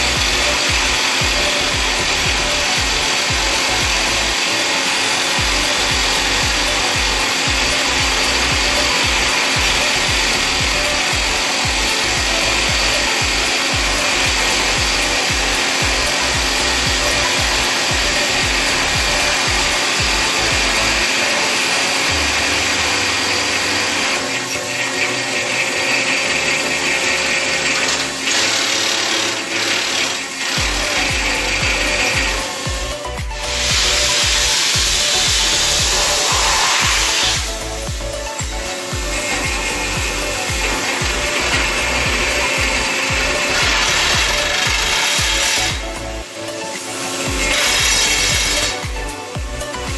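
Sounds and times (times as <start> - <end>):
hydraulic rock drill boring: 0.0 - 49.9.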